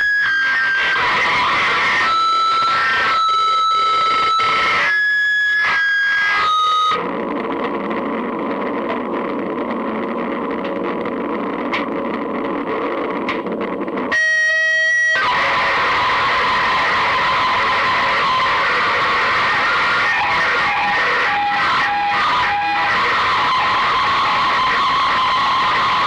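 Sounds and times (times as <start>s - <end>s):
sustained pitched tones: 0.0s - 26.0s.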